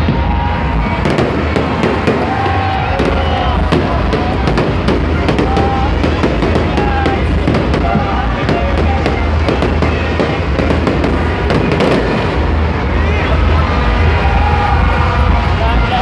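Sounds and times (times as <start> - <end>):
fireworks cracking: 0.0 - 13.4
low booming rumble: 0.0 - 15.4
music playing: 0.0 - 16.0.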